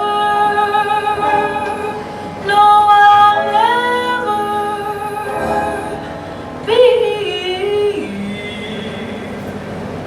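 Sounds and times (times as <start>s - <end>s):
woman singing long notes: 0.0s - 9.1s.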